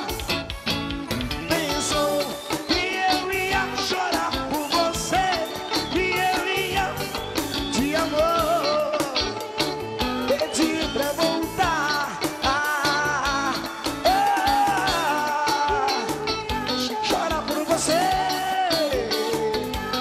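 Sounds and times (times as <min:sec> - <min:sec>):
man singing: 0:00.0 - 0:00.5, 0:01.3 - 0:20.0
live band playing: 0:00.0 - 0:20.0.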